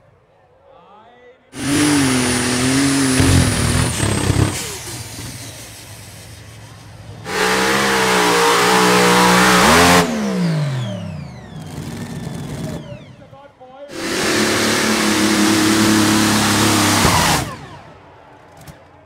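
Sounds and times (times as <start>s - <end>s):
tractor engine at full throttle: 1.6s - 13.3s, 13.9s - 17.9s.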